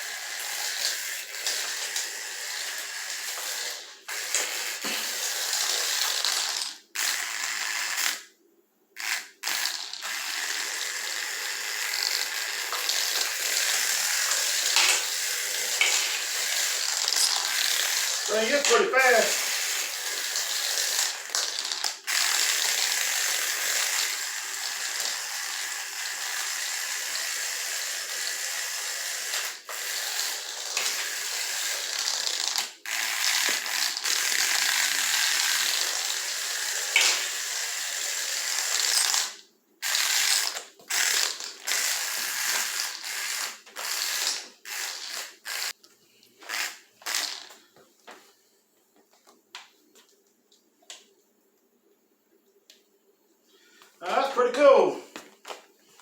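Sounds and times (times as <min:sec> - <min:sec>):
toy car motor buzzing: 0:00.0 - 0:08.3, 0:09.0 - 0:45.8, 0:46.4 - 0:47.7.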